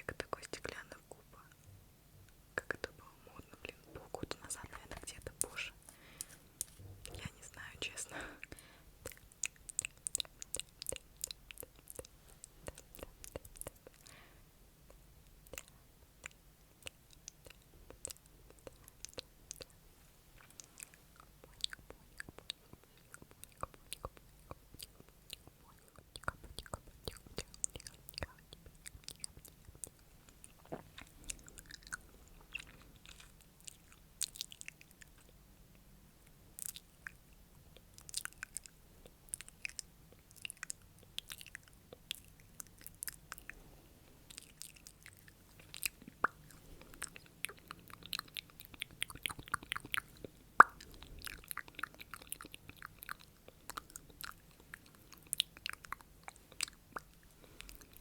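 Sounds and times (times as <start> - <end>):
wet mouth clicks and lip smacks: 8.4 - 14.1, 14.9 - 19.8, 20.4 - 35.4, 36.2 - 43.6, 44.3 - 58.0.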